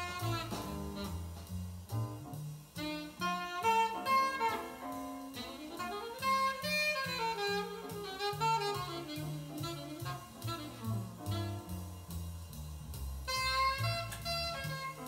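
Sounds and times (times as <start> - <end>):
saxophone solo: 0.0 - 1.5, 2.8 - 11.9, 13.3 - 15.0
walking double bass: 0.0 - 15.0.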